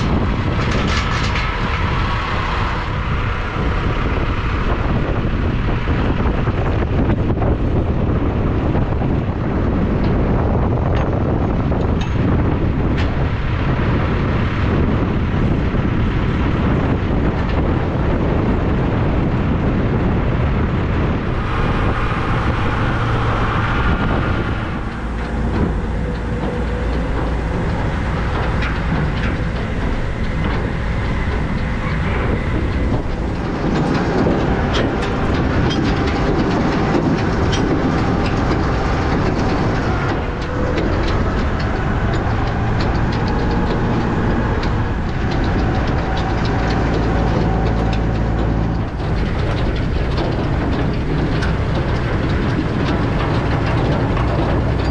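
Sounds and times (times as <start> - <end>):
metal clanks and knocks: 0.0 - 3.1, 8.7 - 18.3, 21.1 - 54.9
heavy farm machinery rumbling: 0.0 - 54.9.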